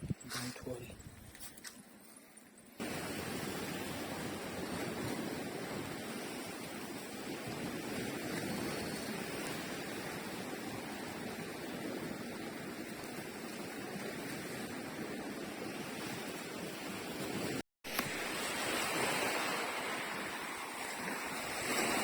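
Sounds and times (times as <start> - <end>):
sea waves washing: 2.8 - 22.0.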